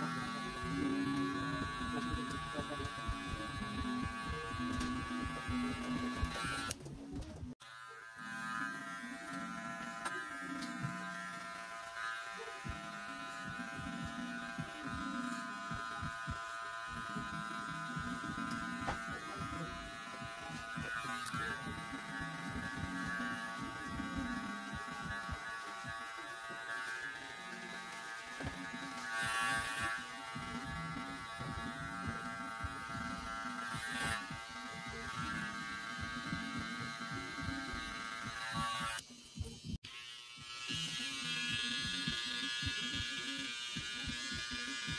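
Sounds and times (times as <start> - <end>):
electric hair clipper buzzing: 0.0 - 44.9.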